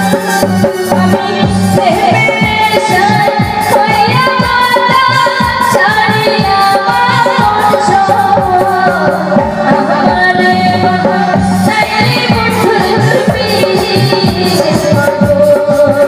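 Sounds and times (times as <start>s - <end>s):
band accompaniment: 0.0s - 16.0s
woman singing into a microphone: 0.0s - 16.0s.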